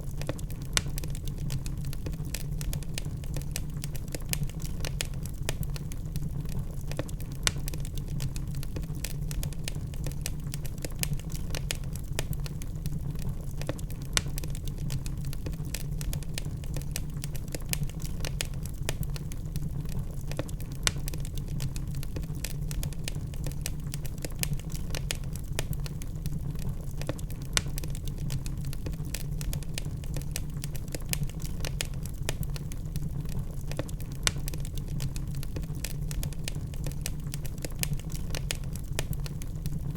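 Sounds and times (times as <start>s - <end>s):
logs burning and crackling: 0.0s - 39.9s.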